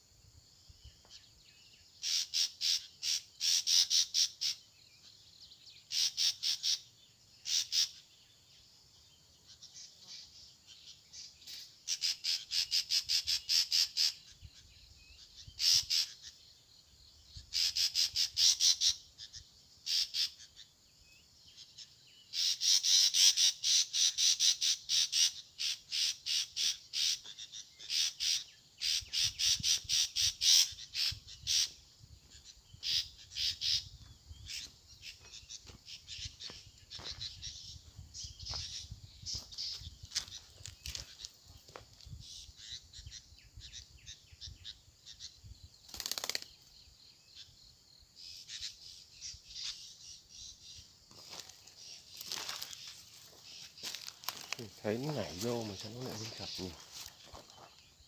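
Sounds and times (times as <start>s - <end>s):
bird chattering calls: 2.0s - 4.7s, 5.9s - 8.1s, 9.5s - 16.4s, 17.4s - 20.7s, 21.6s - 41.4s, 42.2s - 46.7s, 48.2s - 57.8s.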